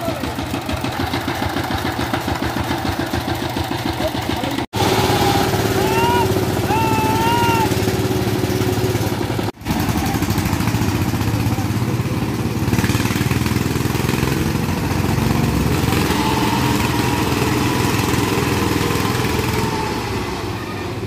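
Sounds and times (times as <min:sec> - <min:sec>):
diesel tiller engine running: 0:00.0 - 0:21.0.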